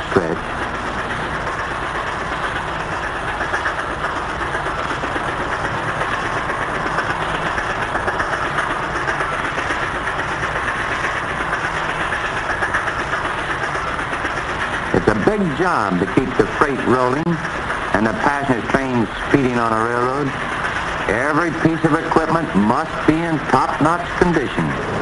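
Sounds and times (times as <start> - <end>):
model trains clacking on track: 0.0 - 25.0.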